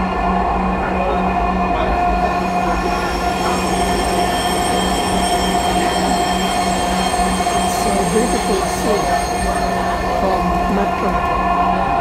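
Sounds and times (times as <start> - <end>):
high whine: 0.0 - 12.0
train wheels rumbling on rail: 0.0 - 12.0.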